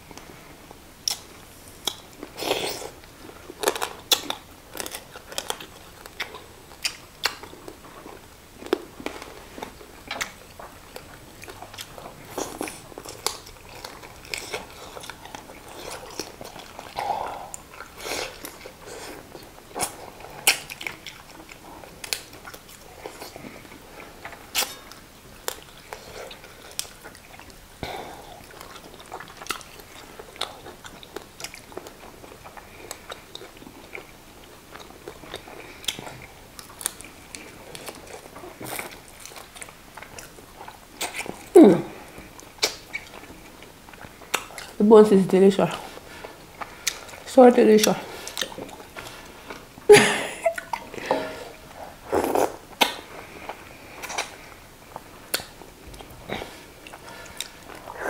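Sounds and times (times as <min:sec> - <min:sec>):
people chewing: 0:00.1 - 0:58.0.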